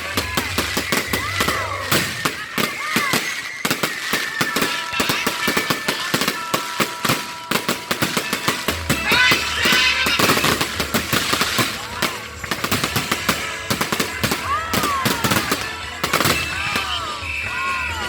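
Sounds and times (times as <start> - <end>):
fireworks popping and banging: 0.0 - 18.0
music playing: 0.0 - 18.0.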